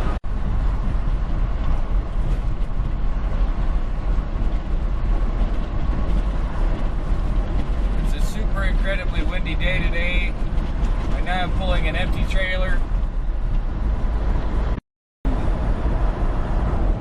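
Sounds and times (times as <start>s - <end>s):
road noise: 0.0s - 17.0s
truck engine rumble: 0.0s - 17.0s.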